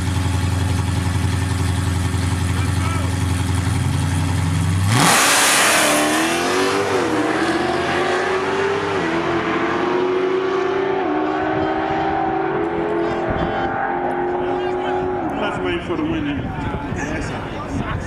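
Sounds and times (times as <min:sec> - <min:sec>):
drag car engines accelerating: 0:00.0 - 0:18.0.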